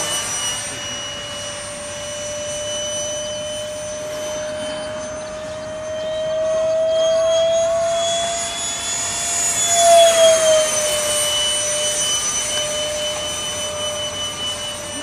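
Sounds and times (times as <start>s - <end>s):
model jet fan whine: 0.0s - 15.0s.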